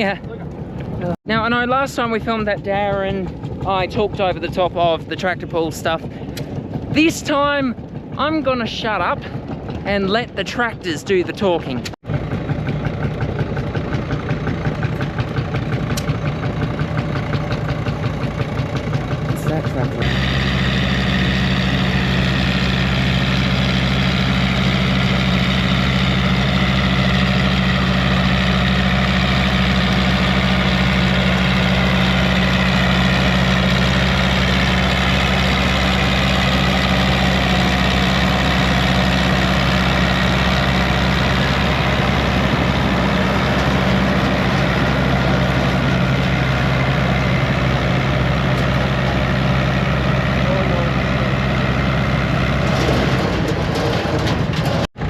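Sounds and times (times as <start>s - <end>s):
tractor diesel engine humming: 0.0s - 55.0s.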